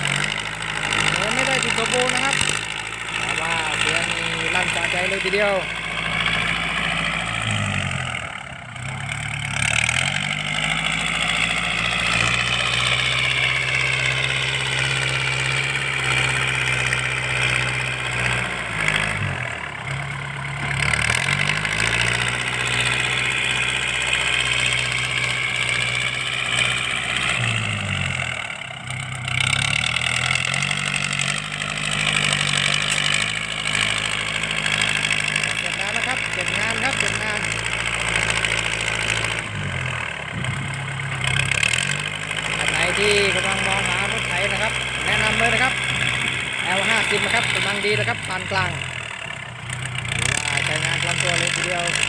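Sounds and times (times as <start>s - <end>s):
tractor diesel engine revving: 0.0s - 52.0s.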